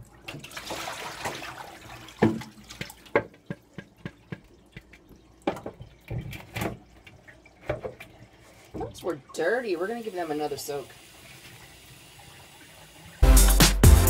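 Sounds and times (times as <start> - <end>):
water splashing into sink: 0.0 - 13.2.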